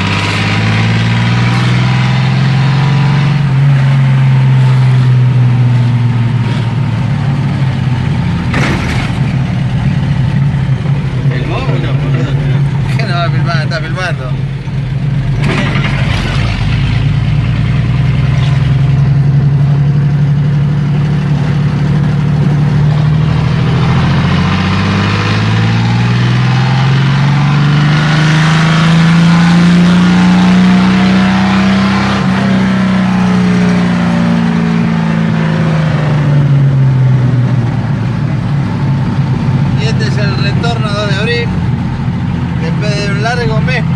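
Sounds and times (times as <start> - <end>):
engine with open exhaust: 0.0 - 43.9.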